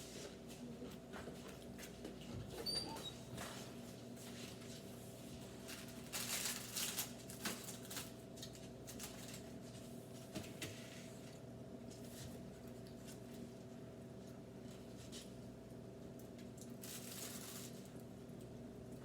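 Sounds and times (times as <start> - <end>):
rustling of food packaging: 3.4 - 18.6.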